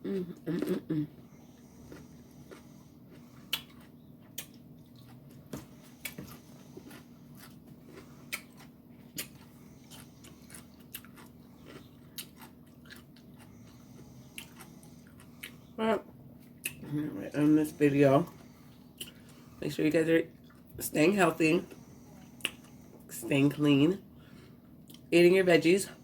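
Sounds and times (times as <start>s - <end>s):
person chewing food: 0.1s - 15.8s, 17.4s - 19.6s, 20.3s - 20.8s, 21.6s - 23.1s, 24.2s - 25.1s.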